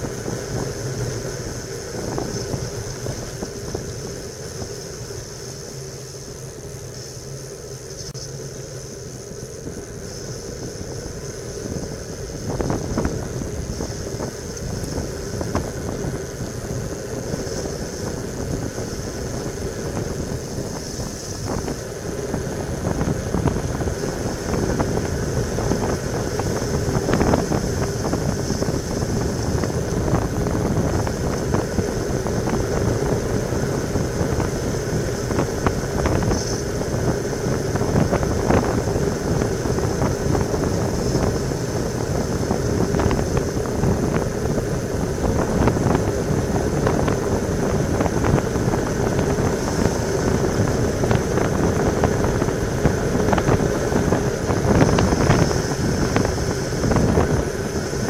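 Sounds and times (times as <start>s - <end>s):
wind on camera microphone: 0.0s - 7.3s, 7.9s - 58.0s
tyre noise on asphalt: 0.0s - 58.0s.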